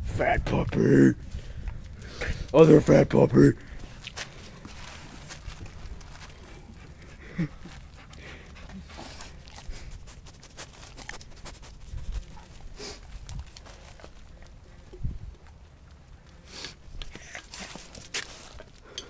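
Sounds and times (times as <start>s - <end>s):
puppy panting and snuffling: 3.6s - 19.0s.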